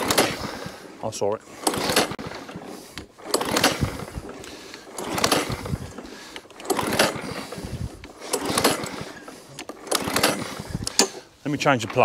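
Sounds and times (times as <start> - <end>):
engine turning over: 0.0 - 12.0
lawn mower pull-start: 0.0 - 12.0.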